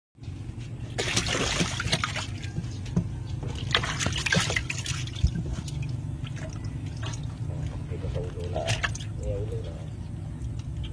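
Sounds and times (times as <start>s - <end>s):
water splashing and sloshing: 0.3s - 10.9s.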